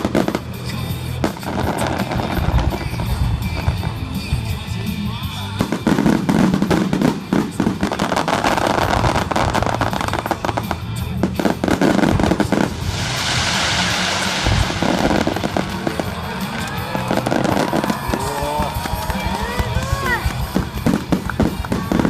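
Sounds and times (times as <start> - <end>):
fireworks bursts and bangs: 0.0 - 22.0
fireworks hissing crackle: 0.0 - 22.0.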